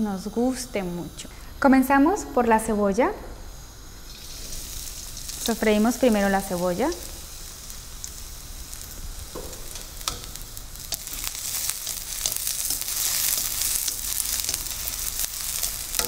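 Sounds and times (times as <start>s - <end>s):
onion sizzling in hot oil: 0.0s - 16.0s.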